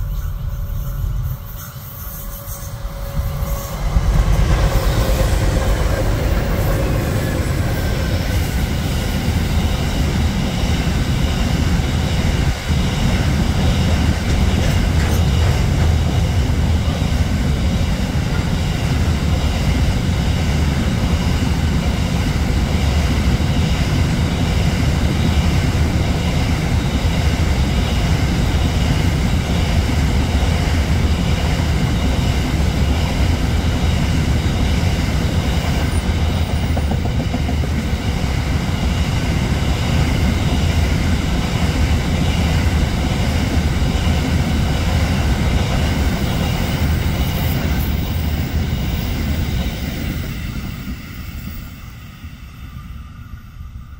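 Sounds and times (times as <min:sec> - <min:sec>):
diesel locomotive engines passing: 0:00.0 - 0:53.9.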